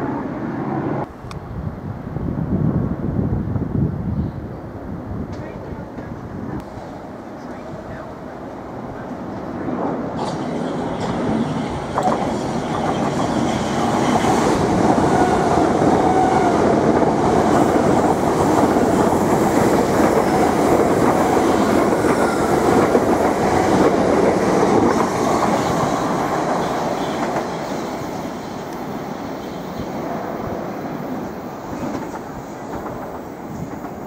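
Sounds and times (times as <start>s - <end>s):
electric train passing: 5.8s - 34.0s.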